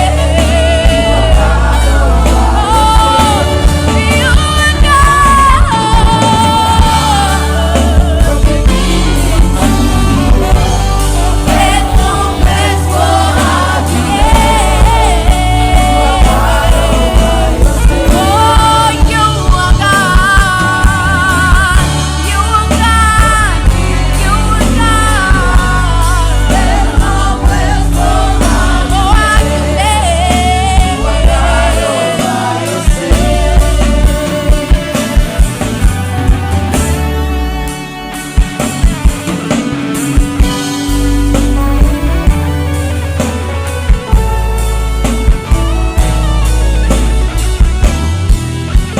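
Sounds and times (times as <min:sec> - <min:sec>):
gospel song with band: 0:00.0 - 0:48.9.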